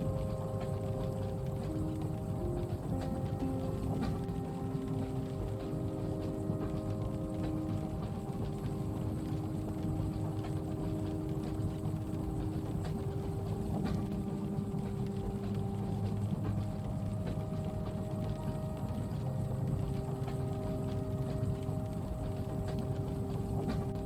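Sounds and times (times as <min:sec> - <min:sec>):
moving train rumble: 0:00.0 - 0:24.0
rain ticking on window: 0:00.0 - 0:24.0
steady humming tones: 0:00.0 - 0:24.0.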